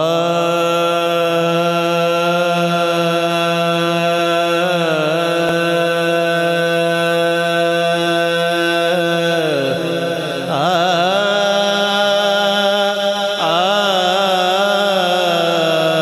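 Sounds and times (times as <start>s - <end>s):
man chanting a long note: 0.0s - 16.0s.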